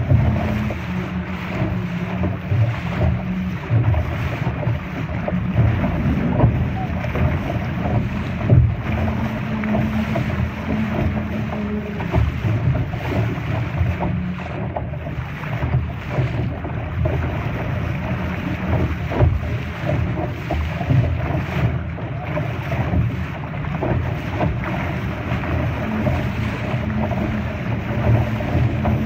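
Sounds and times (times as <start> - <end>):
water slapping against hull: 0.0 - 29.0
wind on microphone: 0.0 - 29.0.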